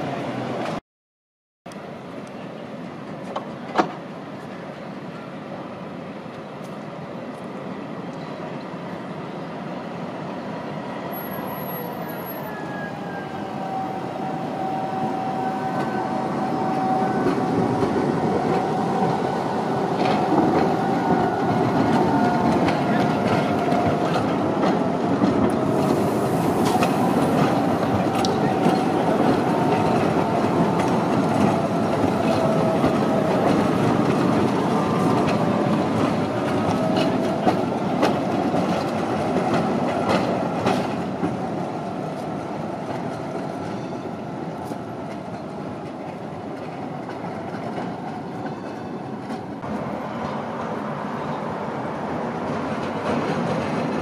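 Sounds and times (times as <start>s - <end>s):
tram passing: 0.0s - 0.8s, 1.7s - 54.0s.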